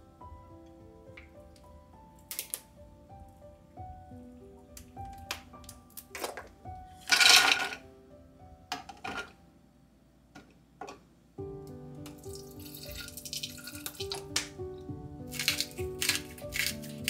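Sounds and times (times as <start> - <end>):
background music: 0.0 - 9.7, 11.4 - 17.0.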